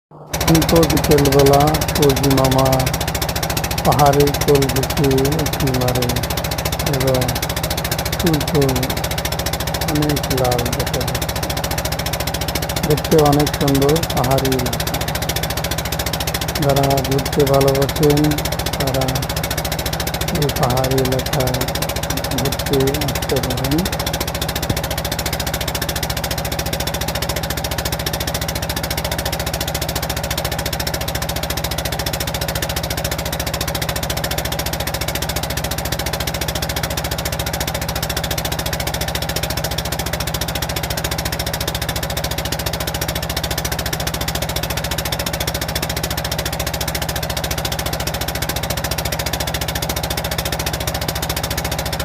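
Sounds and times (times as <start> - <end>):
engine droning steadily: 0.1 - 52.0.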